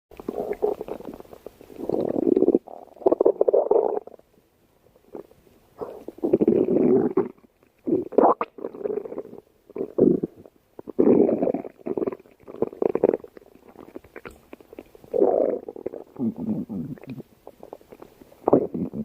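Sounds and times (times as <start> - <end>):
stomach growling: 0.2 - 4.2, 5.1 - 19.0.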